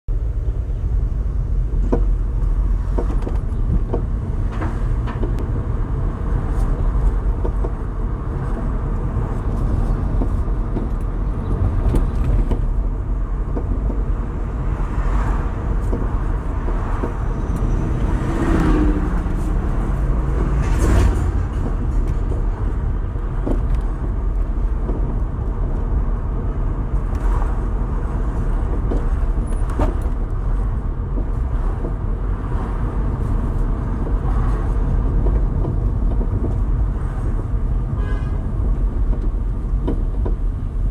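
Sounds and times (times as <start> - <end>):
low road rumble: 0.1 - 40.9
car suspension clunk: 1.6 - 5.6, 6.3 - 40.9.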